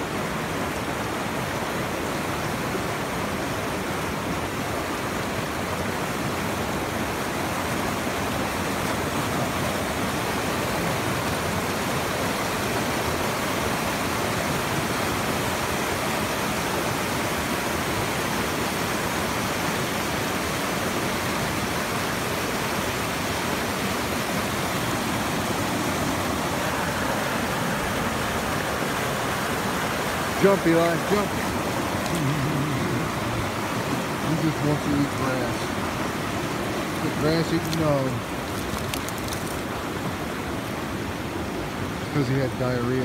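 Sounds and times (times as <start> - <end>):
water rushing over rocks: 0.0 - 43.0.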